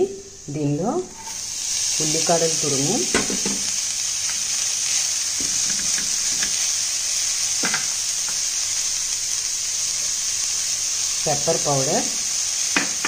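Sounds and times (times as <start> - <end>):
onions sizzling in hot fat: 0.0 - 13.0.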